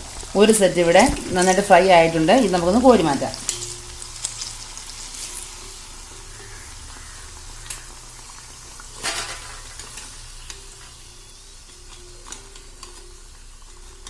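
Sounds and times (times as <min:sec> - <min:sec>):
fritters sizzling in hot oil: 0:00.0 - 0:14.0
oil hissing as stirred: 0:00.0 - 0:14.0.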